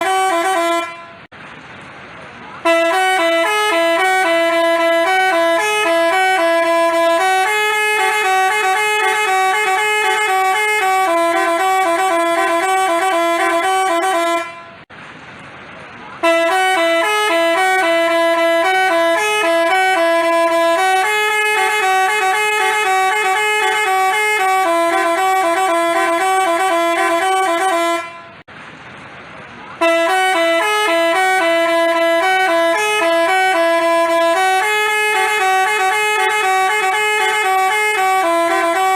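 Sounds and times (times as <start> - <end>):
multi-tone horn melody: 0.0 - 1.3, 2.6 - 14.9, 16.2 - 28.5, 29.8 - 38.9.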